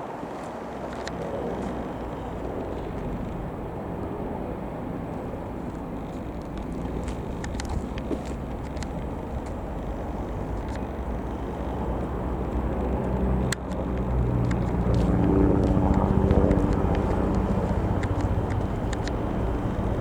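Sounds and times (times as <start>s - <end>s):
helicopter running: 0.0s - 20.0s.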